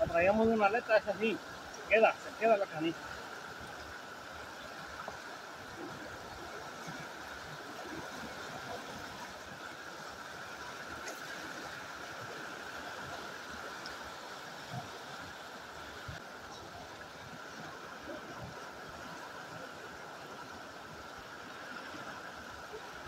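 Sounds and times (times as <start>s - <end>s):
river water rushing over rocks: 0.0s - 23.0s.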